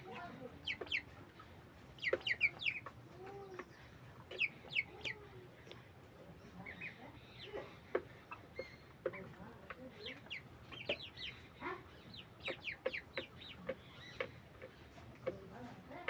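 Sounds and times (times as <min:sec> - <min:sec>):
chickens clucking: 0:00.0 - 0:16.0
chickens peeping: 0:00.0 - 0:16.0.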